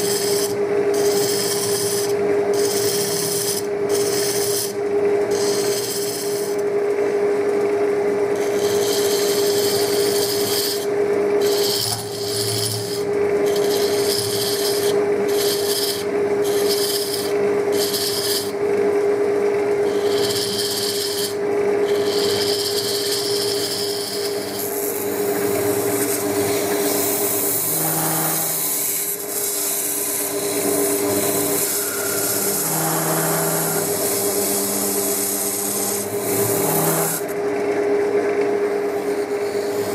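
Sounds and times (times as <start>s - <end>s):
scraping tool hiss: 0.0s - 6.6s, 8.4s - 18.5s, 19.9s - 37.3s, 38.9s - 39.9s
gouge cutting spinning wood: 0.0s - 37.4s, 38.7s - 39.9s
wood lathe humming: 0.0s - 39.9s.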